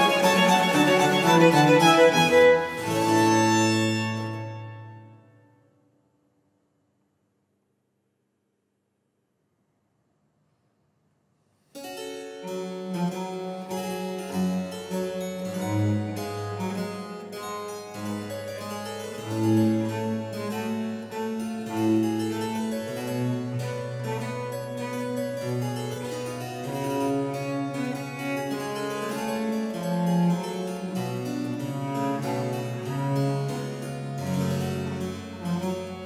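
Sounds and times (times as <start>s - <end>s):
baroque chamber music: 0.0s - 5.4s, 11.8s - 36.0s.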